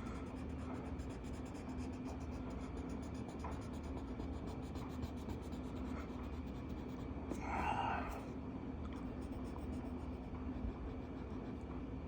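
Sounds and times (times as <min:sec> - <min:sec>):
pencil scratching on paper: 0:00.0 - 0:07.1, 0:09.0 - 0:11.6.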